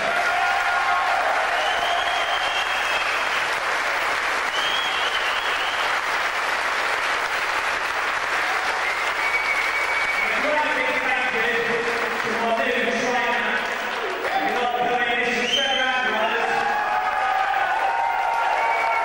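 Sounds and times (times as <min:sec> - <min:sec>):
crowd applauding and cheering: 0:00.0 - 0:19.0.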